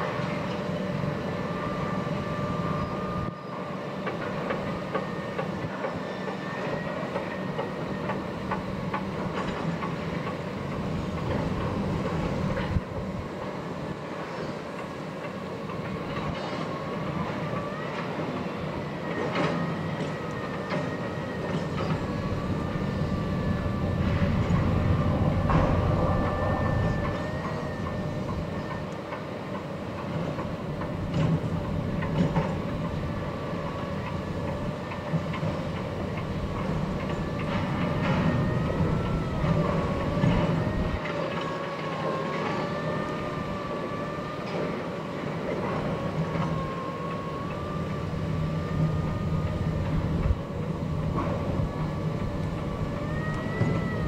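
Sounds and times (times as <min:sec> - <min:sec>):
boat engines rumbling: 0:00.0 - 0:54.0.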